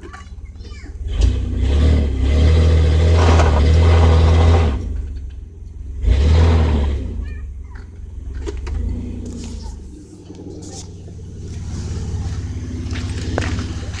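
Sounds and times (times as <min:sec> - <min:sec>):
truck engine revving: 0:01.0 - 0:07.3, 0:07.9 - 0:14.0.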